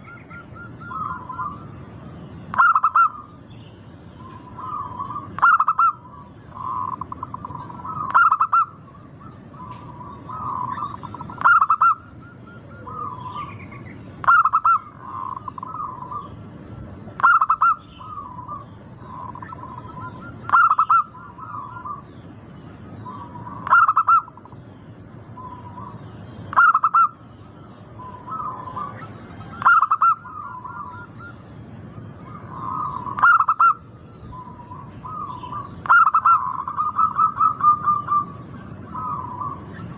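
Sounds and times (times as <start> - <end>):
doves trilling coo: 0.0 - 39.9.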